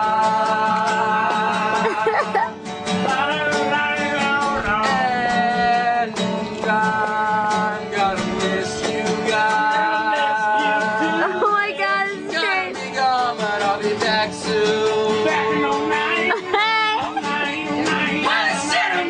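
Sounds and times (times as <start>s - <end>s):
guitar accompaniment: 0.0s - 19.0s
person singing: 0.0s - 19.0s.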